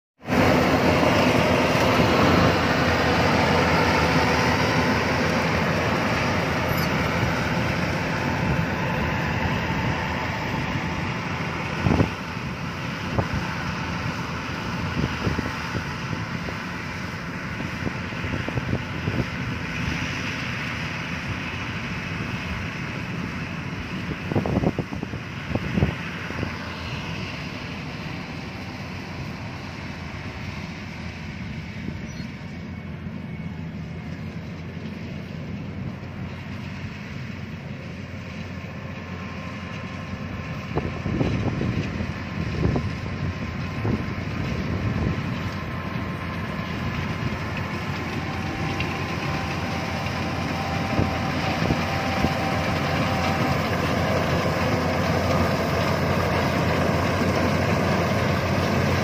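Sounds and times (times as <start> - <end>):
combine harvester running: 0.2 - 59.0.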